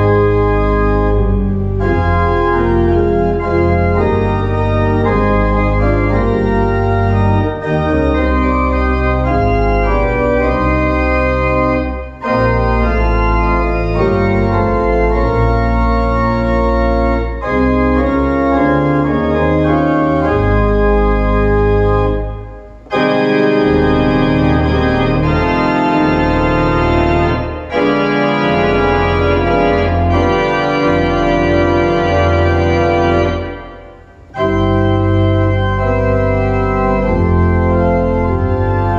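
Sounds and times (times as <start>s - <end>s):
church organ playing hymn: 0.0s - 38.9s.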